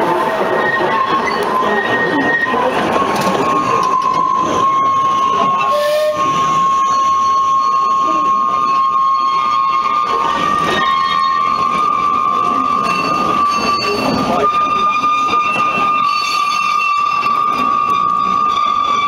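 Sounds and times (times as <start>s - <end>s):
steam train moving: 0.0s - 19.0s
long high-pitched tone: 0.1s - 19.0s.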